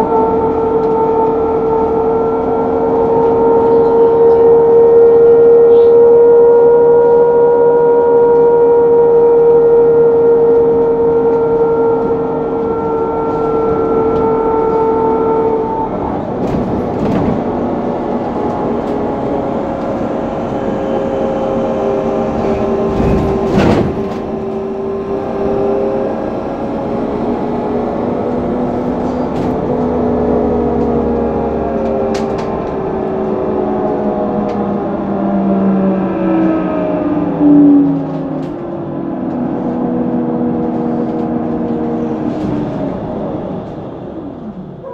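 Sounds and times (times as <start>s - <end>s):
road noise: 0.0s - 44.9s.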